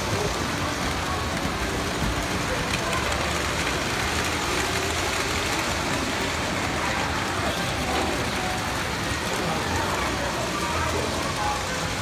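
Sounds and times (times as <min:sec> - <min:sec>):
model train wheels on track: 0:00.0 - 0:12.0.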